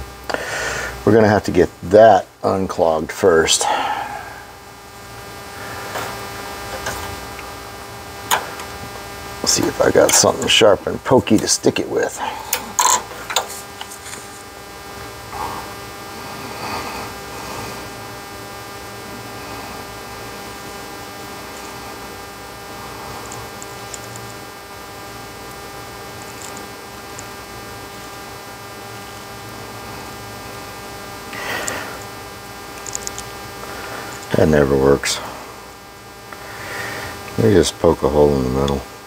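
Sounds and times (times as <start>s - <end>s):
buzzy electrical mains hum: 0.0s - 39.0s.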